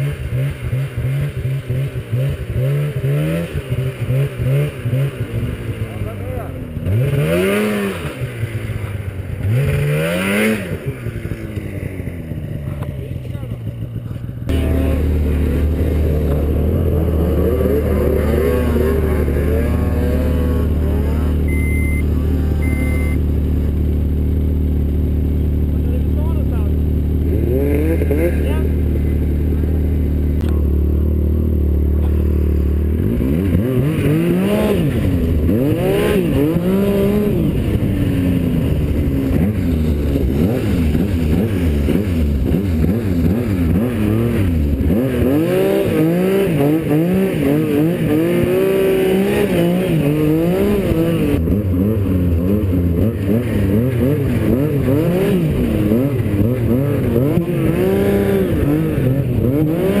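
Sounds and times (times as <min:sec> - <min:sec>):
snowmobile engine revving: 0:00.0 - 1:00.0.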